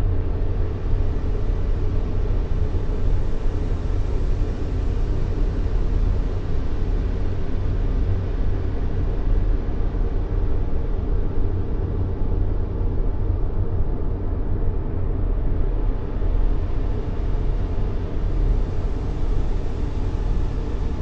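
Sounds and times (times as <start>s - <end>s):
deep steady white noise hiss: 0.0s - 21.0s.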